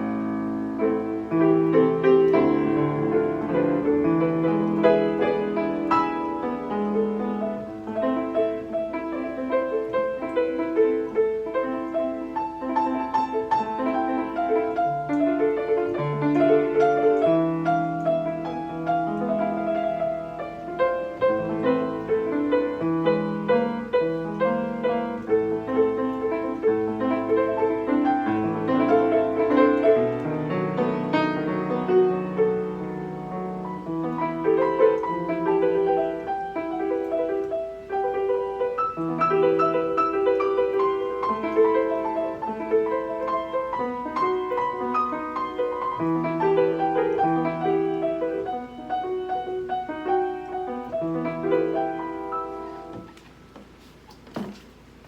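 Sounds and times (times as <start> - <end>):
piano playing: 0.0 - 55.0.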